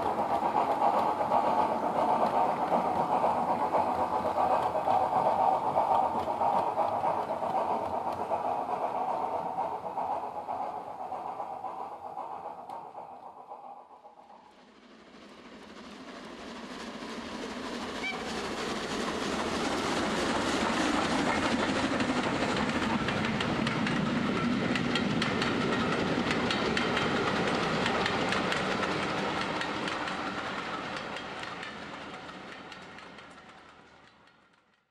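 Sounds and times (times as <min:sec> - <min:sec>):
train wheels on rail: 0:00.0 - 0:34.9.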